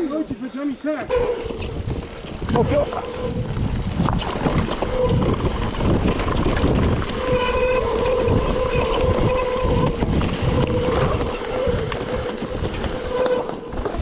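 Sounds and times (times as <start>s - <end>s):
tyres rumbling over ground: 0.0s - 14.0s
high whine from bike: 1.1s - 14.0s
wind rushing over microphone: 1.1s - 14.0s.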